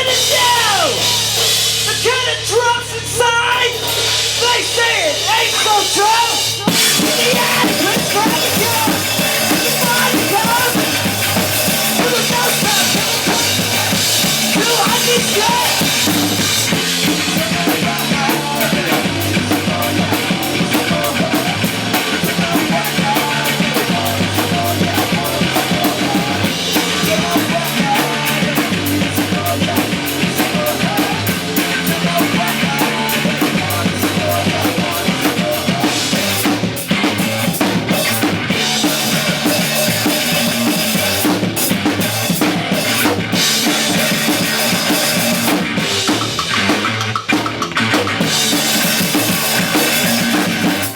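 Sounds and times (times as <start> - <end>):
fast cymbal pattern: 0.0 - 47.0, 48.2 - 50.9
rock band instrumental: 0.0 - 50.9
bass drum and snare: 3.7 - 50.9.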